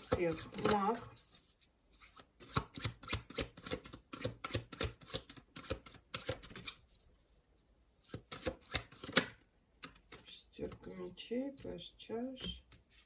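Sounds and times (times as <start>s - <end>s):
cards being shuffled: 0.0s - 6.8s, 8.1s - 11.8s.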